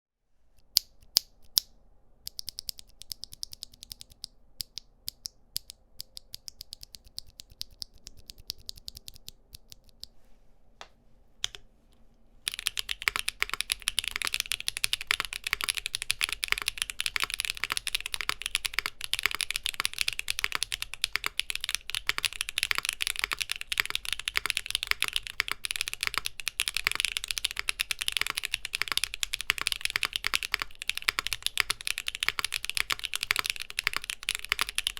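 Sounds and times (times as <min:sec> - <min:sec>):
mechanical keyboard typing: 0:02.3 - 0:10.1, 0:12.5 - 0:34.9.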